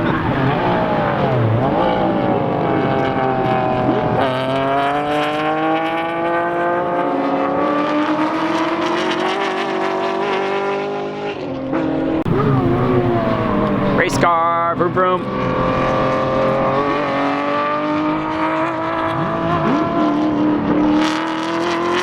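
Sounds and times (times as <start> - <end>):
car engine accelerating: 0.0 - 22.0
race car engines running hard: 0.0 - 22.0.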